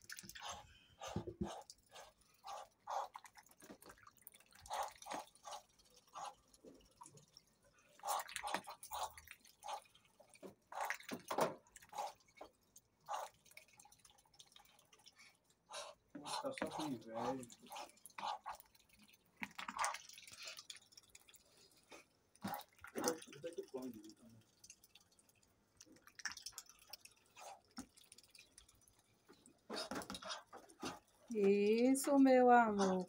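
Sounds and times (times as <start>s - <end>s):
duck bill dabbling in water: 0.0s - 31.3s.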